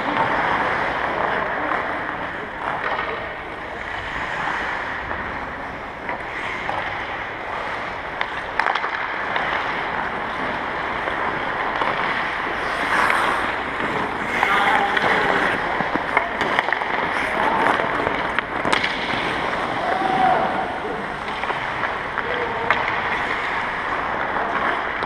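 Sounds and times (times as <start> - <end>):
hockey sticks and pucks clacking: 0.0 - 25.0
skates scraping on ice: 0.0 - 25.0.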